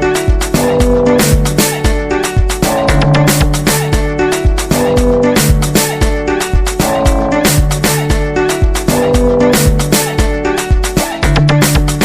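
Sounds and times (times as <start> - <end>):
repeating drum beat: 0.0 - 12.0.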